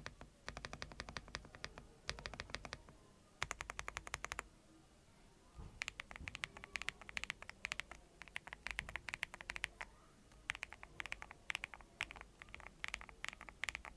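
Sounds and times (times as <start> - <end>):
mechanical keyboard typing: 0.0 - 4.4, 5.8 - 13.9.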